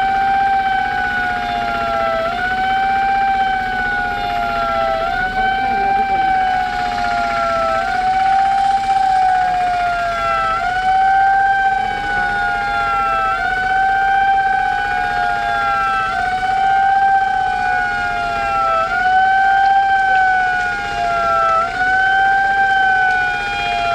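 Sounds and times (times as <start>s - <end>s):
emergency siren wailing: 0.0s - 23.9s.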